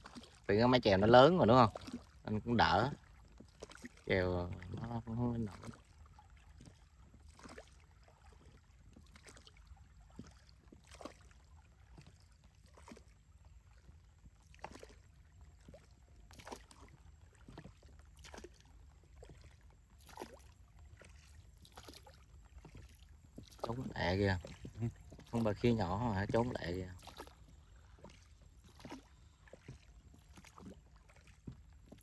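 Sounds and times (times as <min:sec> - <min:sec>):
faint paddle splashes in water: 0:00.0 - 0:32.0.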